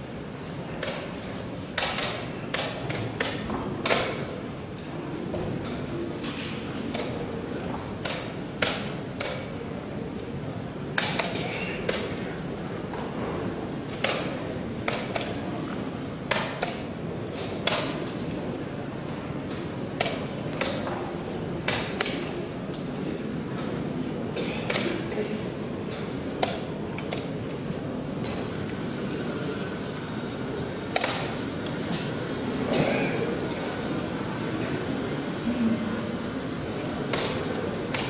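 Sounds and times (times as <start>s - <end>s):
murmur of voices: 0.0s - 38.0s.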